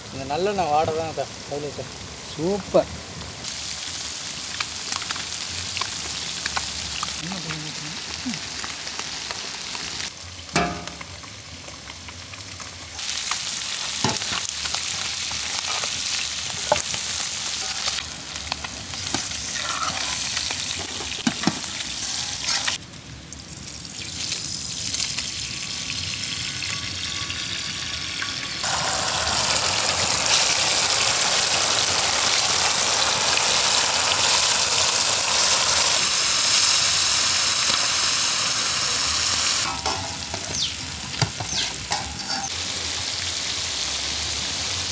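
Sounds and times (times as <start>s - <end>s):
fish sizzling in hot oil: 3.4s - 44.9s.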